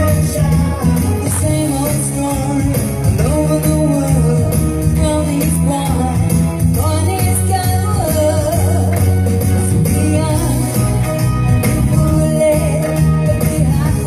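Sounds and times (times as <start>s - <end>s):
steady bass line: 0.0s - 14.0s.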